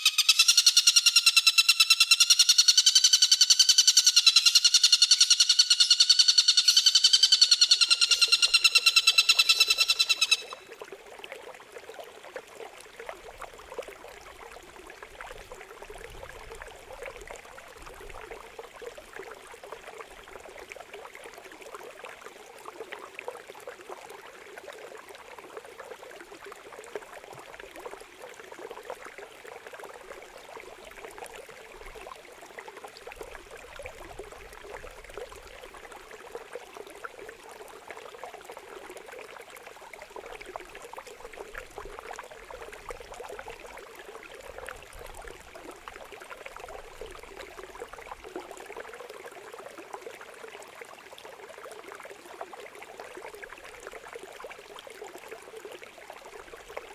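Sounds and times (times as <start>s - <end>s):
running water trickling: 6.6s - 56.9s.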